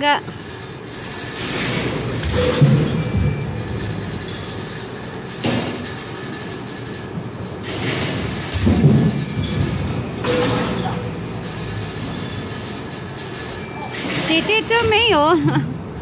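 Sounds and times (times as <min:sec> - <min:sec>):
mechanical rumble and clatter: 0:00.0 - 0:16.0.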